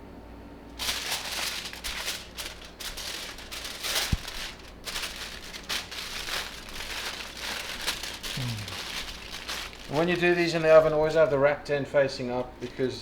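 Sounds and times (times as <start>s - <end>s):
aluminium foil crinkling: 0.7s - 13.0s.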